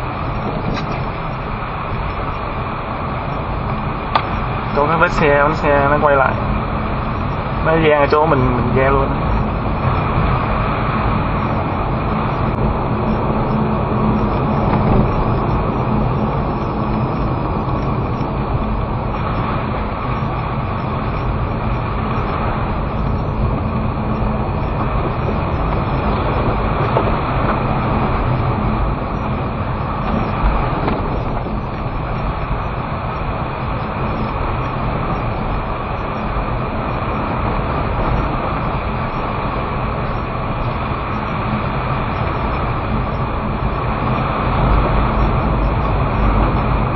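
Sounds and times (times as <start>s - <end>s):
car engine and tyre noise: 0.0s - 46.9s.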